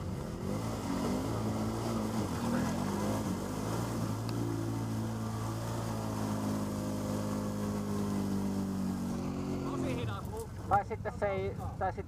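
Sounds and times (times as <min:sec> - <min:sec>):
atv engine running steadily: 0:00.0 - 0:12.0.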